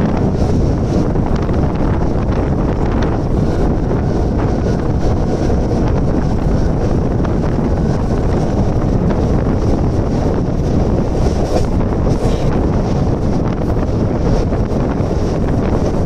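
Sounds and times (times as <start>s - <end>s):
train wheels rumbling on track: 0.0s - 16.0s
wind rushing over microphone: 0.0s - 16.0s.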